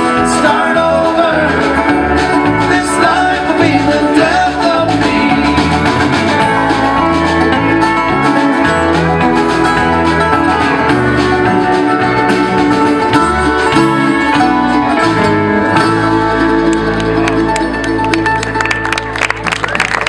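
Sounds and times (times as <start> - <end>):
acoustic guitar: 0.0 - 19.4
banjo: 0.0 - 20.0
bass guitar: 0.0 - 20.0
mandolin: 0.0 - 20.0.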